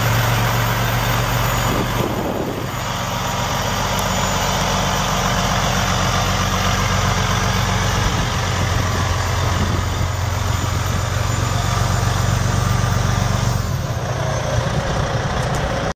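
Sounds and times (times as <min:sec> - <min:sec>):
diesel truck engine running: 0:00.0 - 0:15.9.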